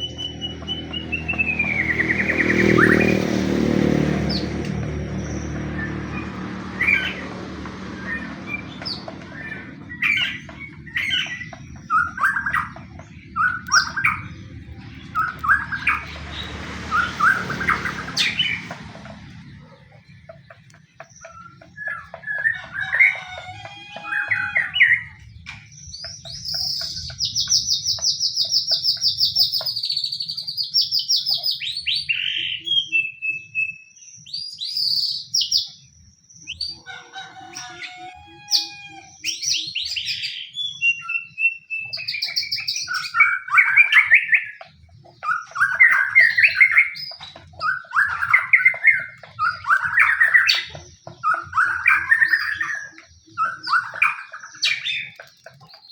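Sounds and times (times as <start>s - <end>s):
bird singing whistles and trills: 0.0s - 3.4s, 4.2s - 7.4s, 8.0s - 18.8s, 20.3s - 55.9s.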